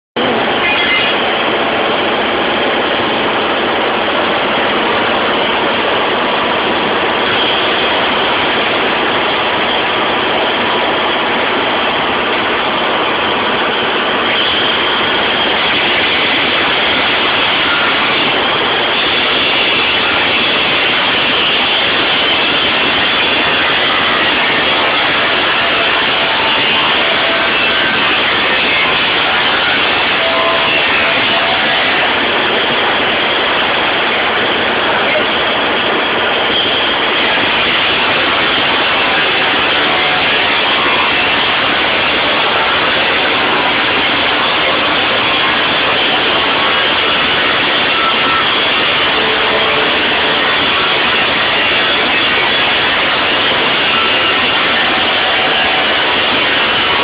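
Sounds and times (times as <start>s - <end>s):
arc welding hiss: 6.2s - 57.0s.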